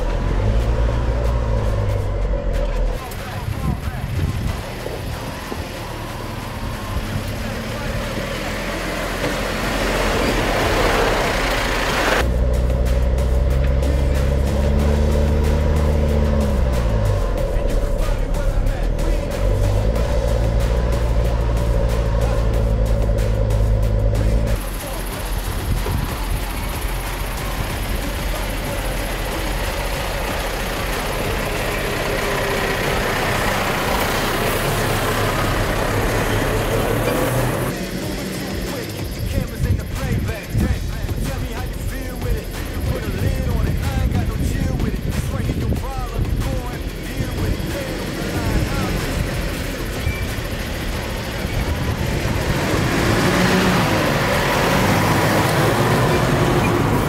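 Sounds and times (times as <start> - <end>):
pickup truck engine at low revs: 0.0 - 57.0.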